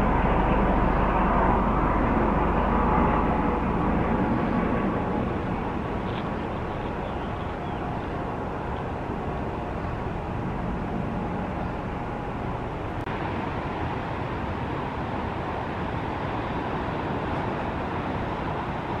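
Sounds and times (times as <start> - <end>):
outdoor background rumble and hiss: 0.0 - 19.0.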